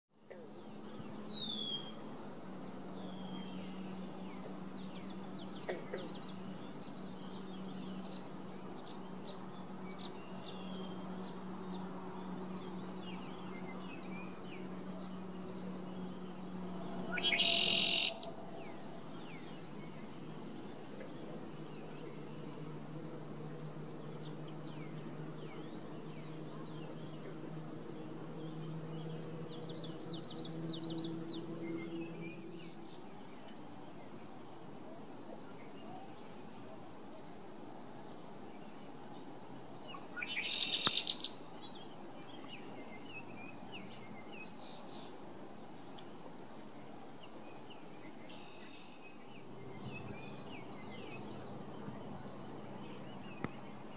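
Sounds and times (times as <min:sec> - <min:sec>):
songbirds chirping: 0:00.2 - 0:53.9
steady low hum: 0:00.2 - 0:53.9.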